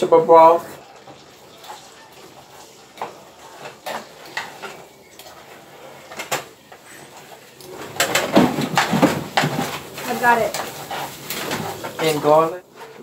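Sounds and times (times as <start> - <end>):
utensil scraping a pan: 0.7 - 13.0.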